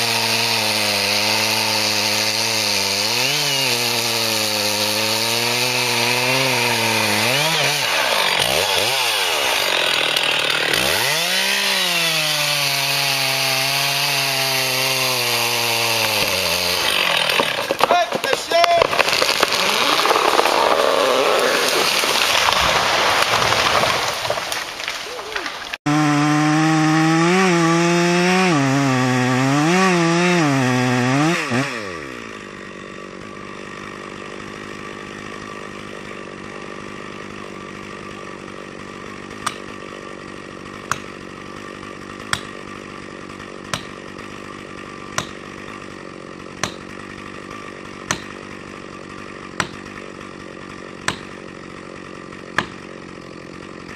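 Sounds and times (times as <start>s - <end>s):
chainsaw engine running high speed: 0.0s - 23.3s, 25.8s - 53.9s
chainsaw cutting: 0.0s - 53.9s.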